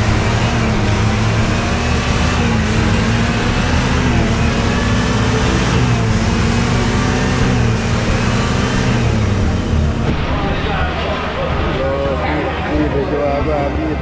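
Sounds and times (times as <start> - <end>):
road noise: 0.0 - 14.0
vehicle engine running: 0.0 - 14.0.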